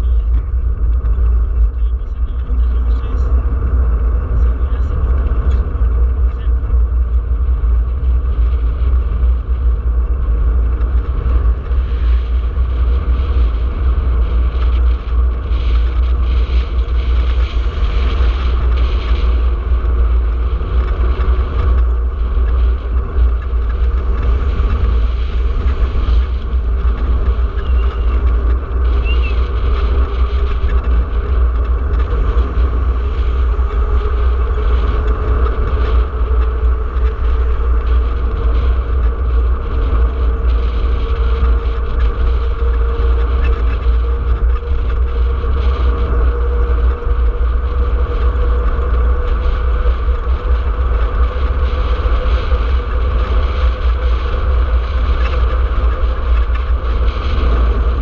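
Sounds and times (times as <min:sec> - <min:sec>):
bicycle road vibration: 0:00.0 - 0:58.0
wind rumble: 0:00.0 - 0:58.0.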